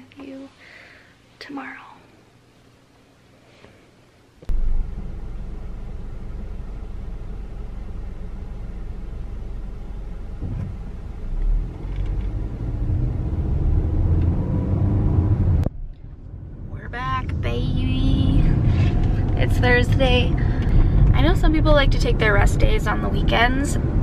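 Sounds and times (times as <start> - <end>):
car engine from inside cabin: 4.5 - 24.0.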